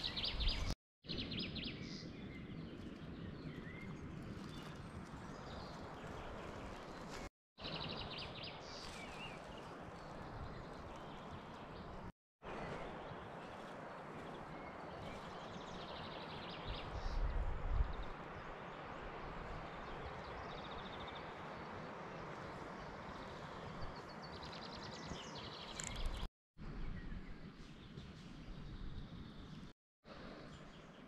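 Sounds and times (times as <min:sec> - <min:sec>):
small birds chirping: 0:00.0 - 0:29.7.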